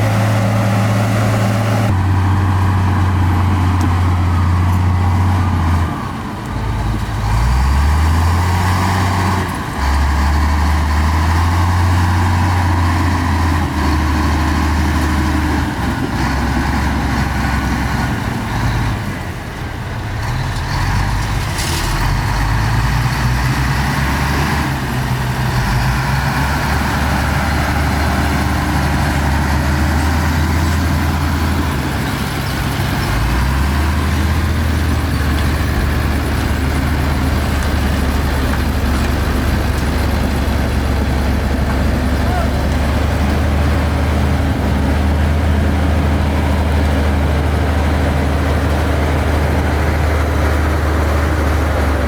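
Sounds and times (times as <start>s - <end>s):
heavy diesel engines running: 0.0s - 52.0s.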